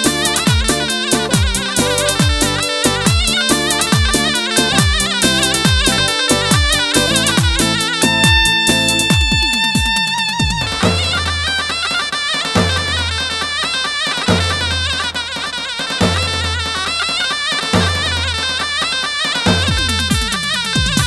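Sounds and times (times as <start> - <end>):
deep drum beats: 0.0 - 18.9, 19.5 - 21.0
reed pipe melody: 0.0 - 21.0.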